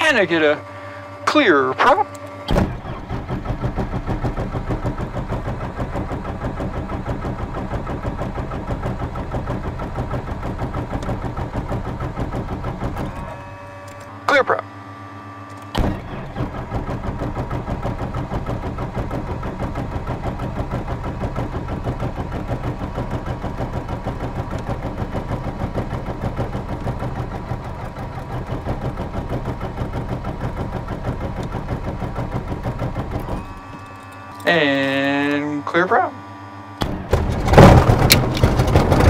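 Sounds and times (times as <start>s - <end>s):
aircraft engine cranking: 0.0s - 39.0s.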